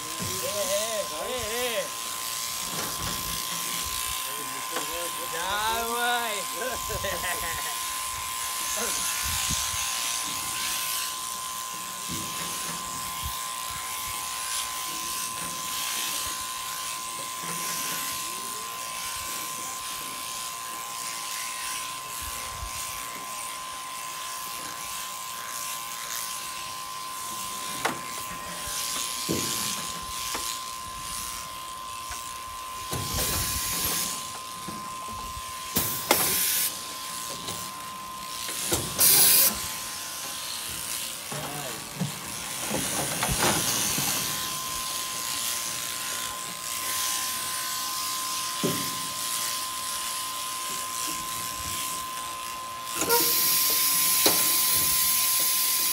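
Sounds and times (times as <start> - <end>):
shearing handpiece buzzing: 0.0 - 55.9.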